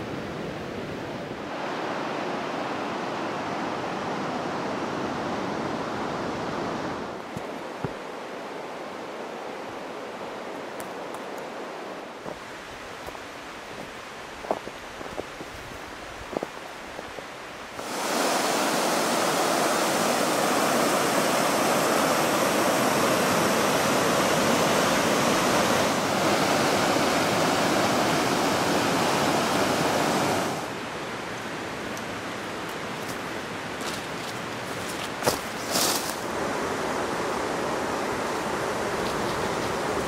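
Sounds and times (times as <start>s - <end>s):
faint rushing water: 0.0s - 40.0s
river water roaring: 0.0s - 40.0s.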